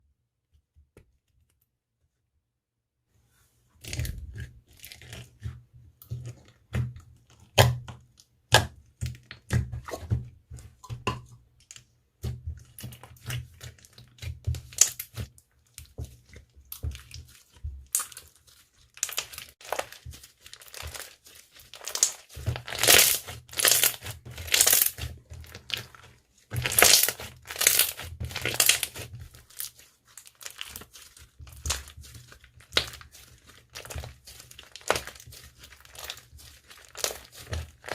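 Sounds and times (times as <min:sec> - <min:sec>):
hands squishing slime: 0:03.8 - 0:37.9.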